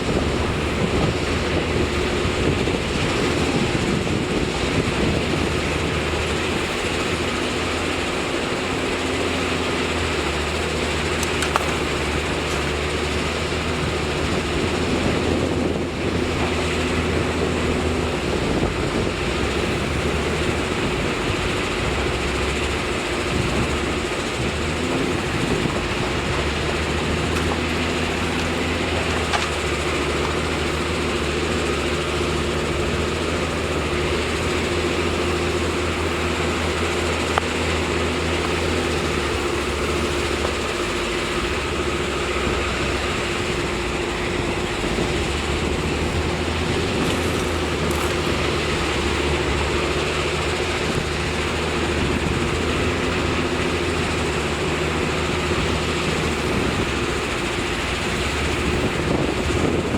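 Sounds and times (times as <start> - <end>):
heavy machinery engine hum: 0.0 - 59.9.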